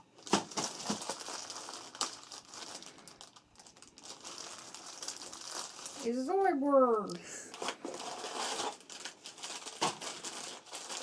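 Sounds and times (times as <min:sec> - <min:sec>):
foil bag crinkling and tearing: 0:00.0 - 0:06.4, 0:07.5 - 0:11.0.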